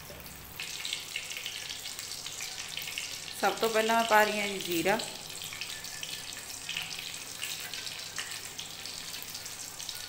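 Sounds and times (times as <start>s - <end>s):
seeds sizzling in hot oil: 0.0s - 10.0s.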